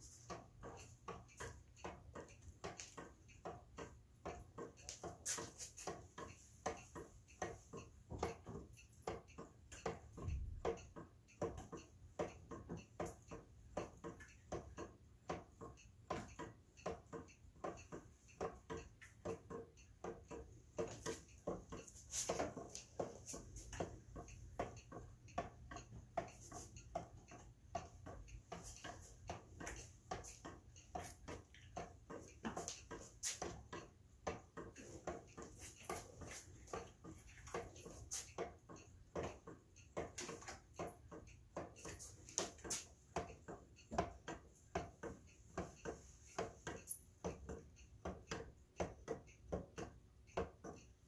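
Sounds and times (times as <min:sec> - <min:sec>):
wooden clock ticking: 0:00.0 - 0:51.0.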